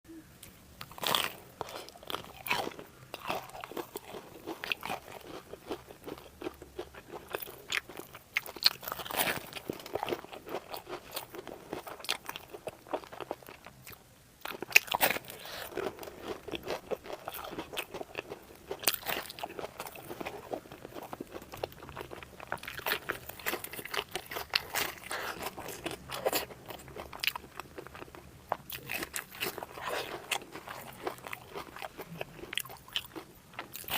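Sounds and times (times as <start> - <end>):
person chewing crunchy food: 0.8 - 33.9.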